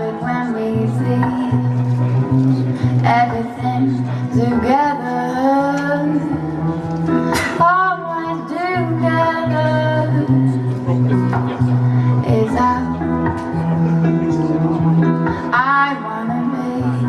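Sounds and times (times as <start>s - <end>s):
woman singing: 0.0s - 10.7s, 12.0s - 13.7s, 15.2s - 17.0s
guitar accompaniment: 0.0s - 17.0s.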